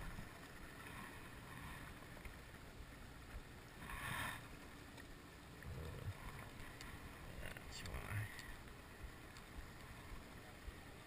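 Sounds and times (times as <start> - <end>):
faint wind: 0.0 - 11.0
water around boat: 0.0 - 11.0.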